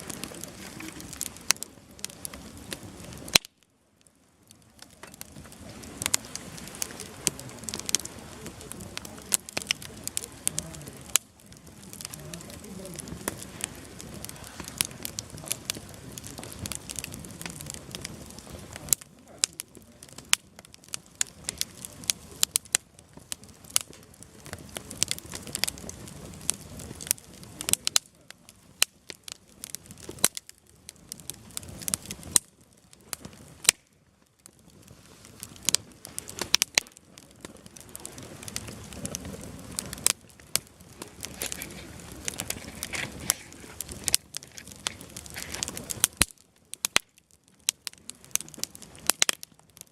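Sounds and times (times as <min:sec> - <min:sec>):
fire hiss: 0:00.0 - 0:47.0
campfire crackling and popping: 0:00.0 - 0:49.9.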